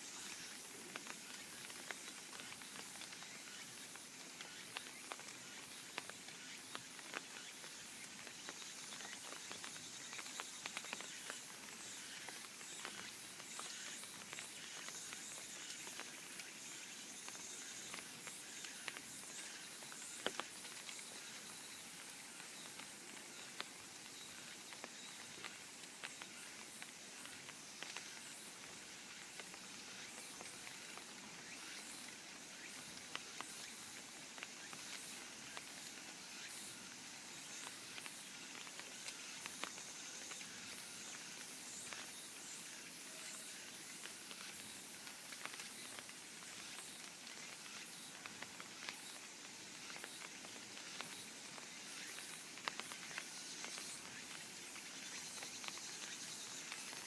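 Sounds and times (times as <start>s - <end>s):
cicadas buzzing: 0.0s - 57.0s
light rain pattering: 0.0s - 57.0s.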